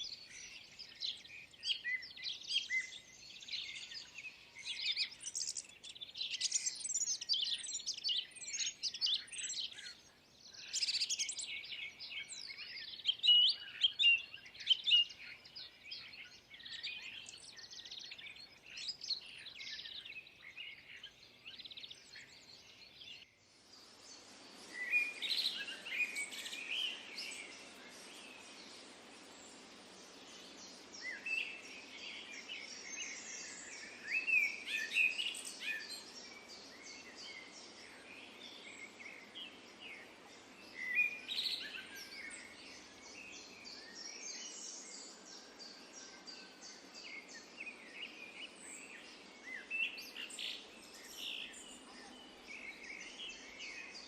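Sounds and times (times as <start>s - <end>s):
small birds chirping: 0.0s - 54.0s
steady background hiss: 0.0s - 54.0s.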